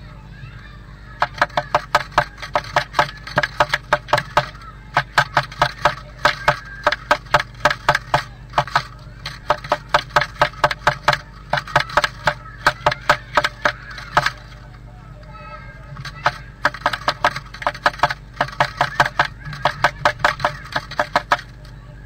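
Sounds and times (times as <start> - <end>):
steady low hum: 0.0 - 22.0
bird pecking wood rapid taps: 1.2 - 14.8, 16.0 - 21.7.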